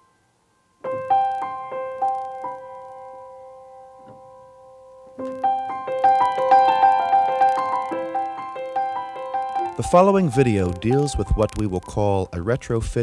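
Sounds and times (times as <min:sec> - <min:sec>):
piano music: 0:00.8 - 0:13.0.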